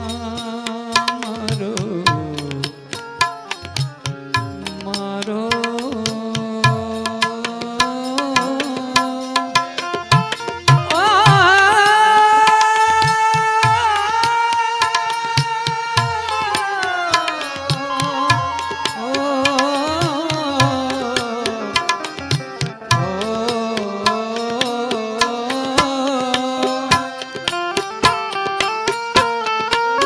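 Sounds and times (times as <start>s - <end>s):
harmonium: 0.0s - 30.0s
person singing devotional song: 0.0s - 30.0s
tabla beat: 0.0s - 30.0s.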